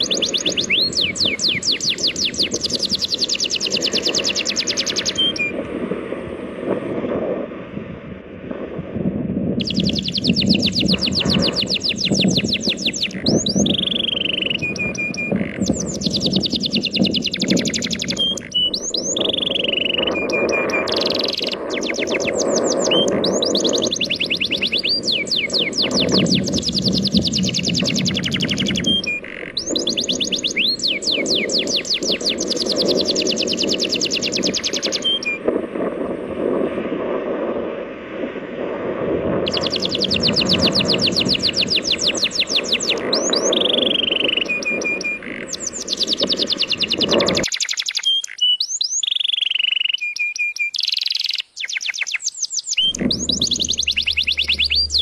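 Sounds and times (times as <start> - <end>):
songbird singing trills: 0.0 - 5.6, 9.6 - 35.5, 39.5 - 55.0.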